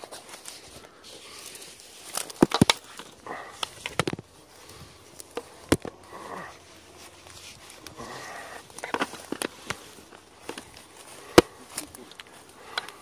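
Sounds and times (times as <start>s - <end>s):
twigs snapping underfoot: 0.0s - 6.1s, 6.8s - 13.0s
leaves and branches swishing: 0.0s - 13.0s.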